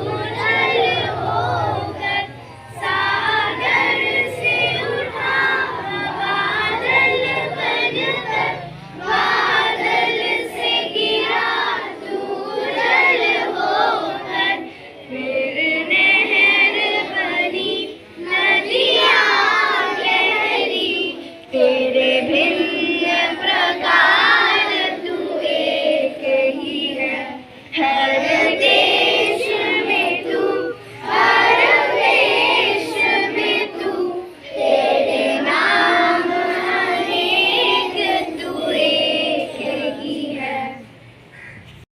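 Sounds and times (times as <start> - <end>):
children singing in unison: 0.0 - 41.6.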